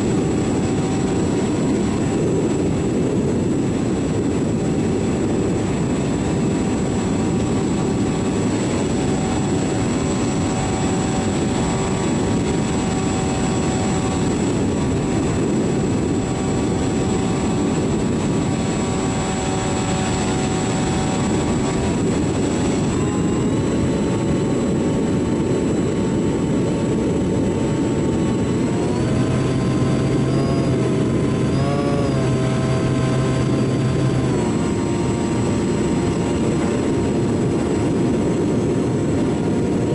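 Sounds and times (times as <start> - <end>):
model airplane motor and propeller: 0.0 - 39.9
wind rushing over microphone: 0.0 - 39.9.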